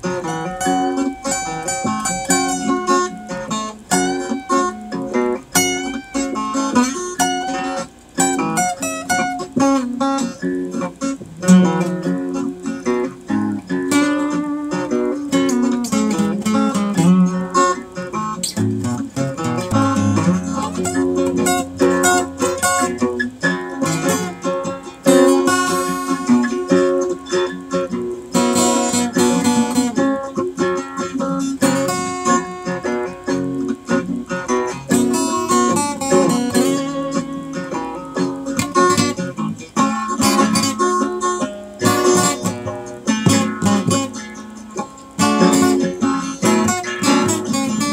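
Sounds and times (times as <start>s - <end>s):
acoustic guitar picking: 0.0s - 47.9s.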